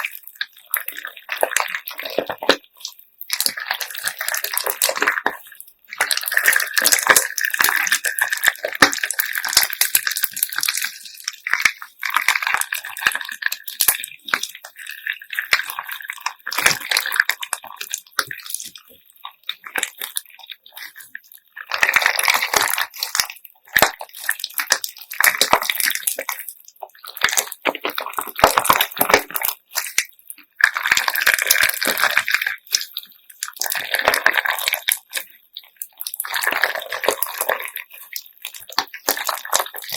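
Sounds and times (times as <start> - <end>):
squishy slime crackling: 0.0 - 39.9.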